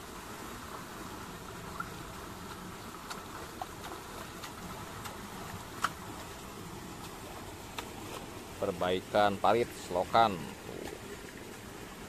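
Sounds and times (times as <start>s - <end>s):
shallow water running in ditch: 0.0s - 12.0s.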